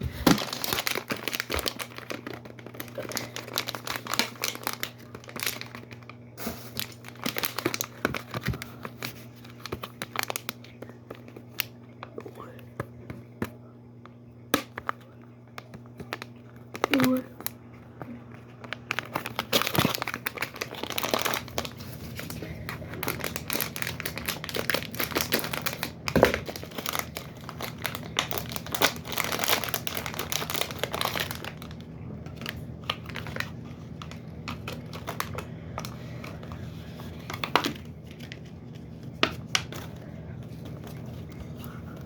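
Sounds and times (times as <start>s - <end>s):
packaging crinkling and tearing: 0.0s - 12.6s, 14.6s - 42.0s.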